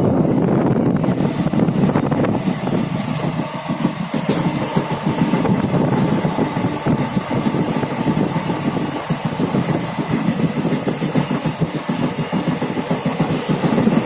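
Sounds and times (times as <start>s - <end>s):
train rumbling: 0.0s - 14.0s
wheels clattering over rails: 1.1s - 14.0s.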